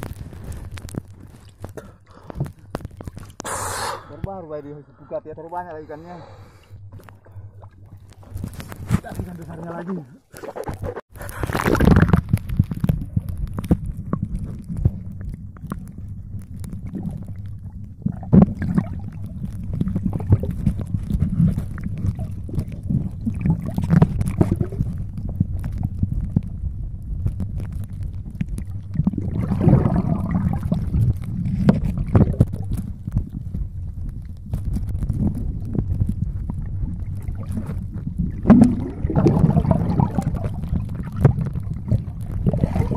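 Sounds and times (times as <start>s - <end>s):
water splashing and bubbling: 0.0s - 4.5s, 5.2s - 42.9s
muffled underwater rumble: 0.0s - 42.9s.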